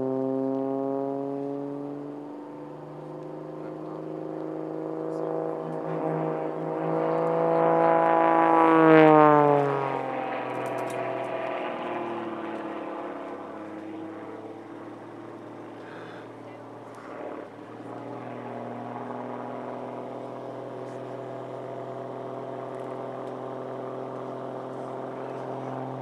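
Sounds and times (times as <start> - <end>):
propeller plane droning overhead: 0.0 - 26.0.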